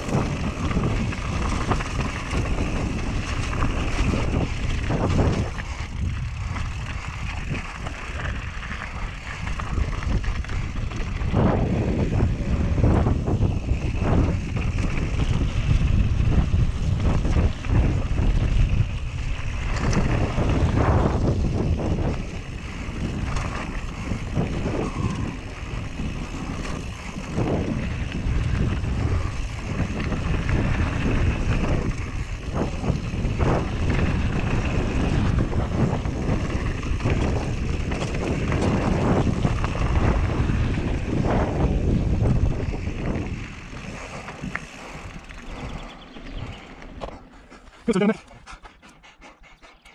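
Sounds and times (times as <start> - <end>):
bike rattling and knocking: 0.0 - 47.3
wind buffeting microphone: 0.0 - 49.9.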